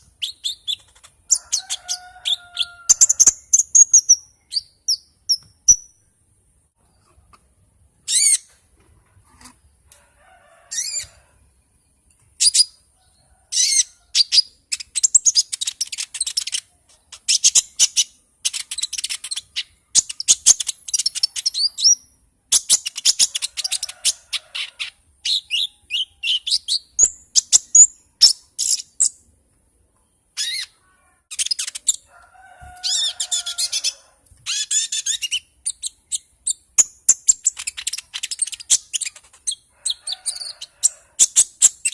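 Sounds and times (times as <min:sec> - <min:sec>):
songbird singing: 0:00.0 - 0:08.9, 0:09.6 - 0:41.9.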